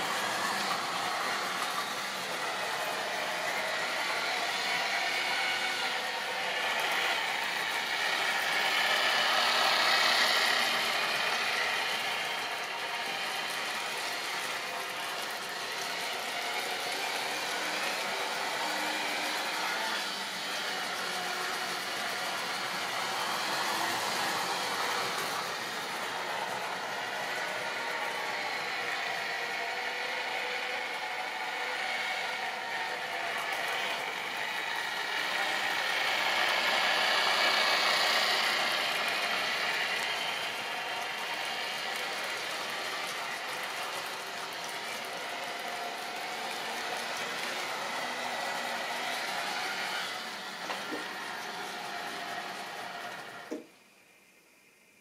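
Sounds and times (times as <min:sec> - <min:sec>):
model train wheels rattling on rails: 0:00.0 - 0:53.7.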